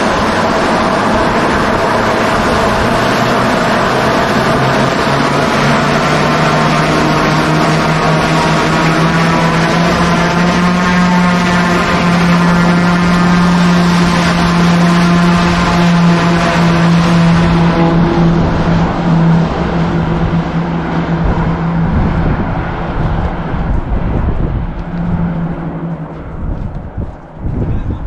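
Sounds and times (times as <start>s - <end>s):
turboprop airplane droning: 0.0s - 28.0s.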